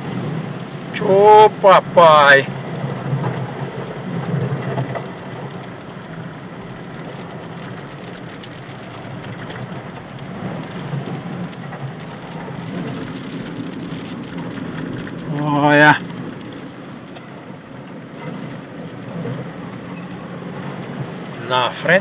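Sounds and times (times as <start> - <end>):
tyres rushing through water: 0.0 - 22.0
vehicle engine running: 0.0 - 22.0.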